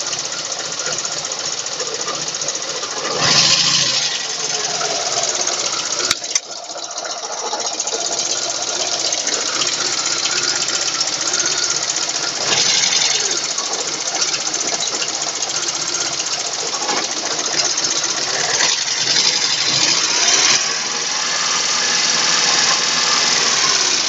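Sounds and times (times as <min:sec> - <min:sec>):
car engine with valve ticking: 0:00.0 - 0:24.0.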